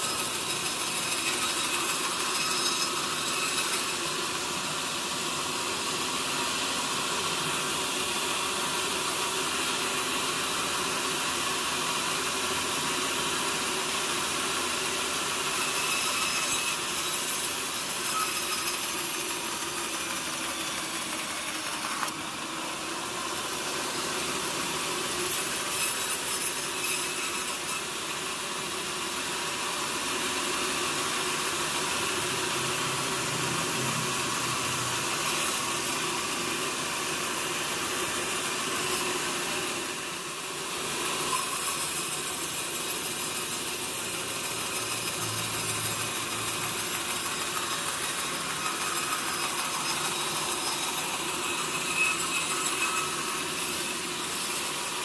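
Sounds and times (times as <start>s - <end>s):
saw cutting log: 0.0s - 55.0s.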